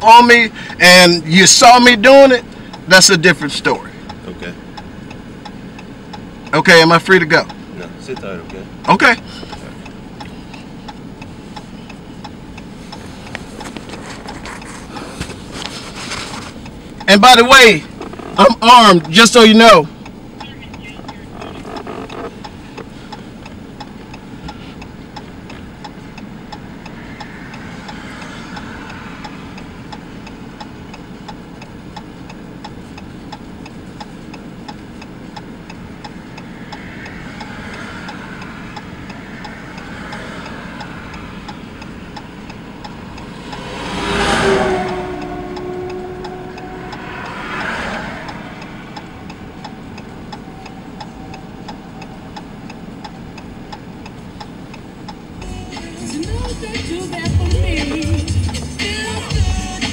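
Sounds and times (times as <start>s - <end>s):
faint even ticking: 0.0s - 15.8s, 16.5s - 59.9s
car engine idling: 0.0s - 59.9s
vehicles passing by: 0.0s - 59.9s.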